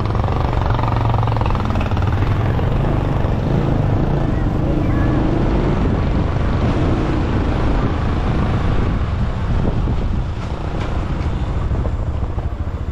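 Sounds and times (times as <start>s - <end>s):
motorcycle engine running: 0.0s - 12.9s
wind rushing over microphone: 0.0s - 12.9s.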